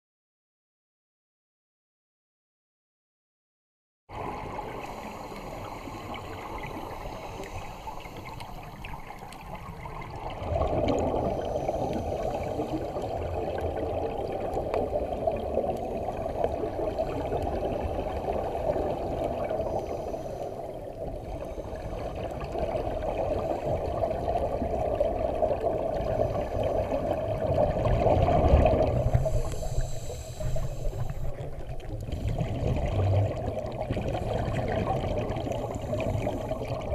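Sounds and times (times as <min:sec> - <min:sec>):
underwater bubbling: 0:04.1 - 0:36.9.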